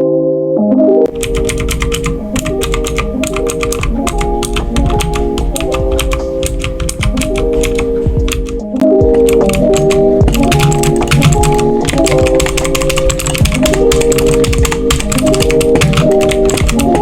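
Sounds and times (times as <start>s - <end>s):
background music: 0.0s - 17.0s
mechanical keyboard typing: 1.1s - 17.0s.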